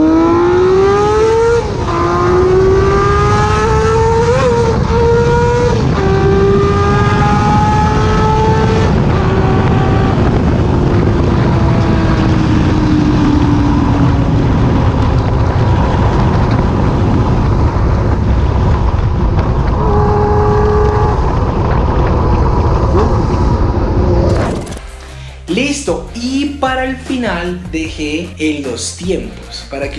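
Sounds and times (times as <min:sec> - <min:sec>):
motorcycle engine at high revs: 0:00.0 - 0:24.8
wind and road noise: 0:00.0 - 0:29.9.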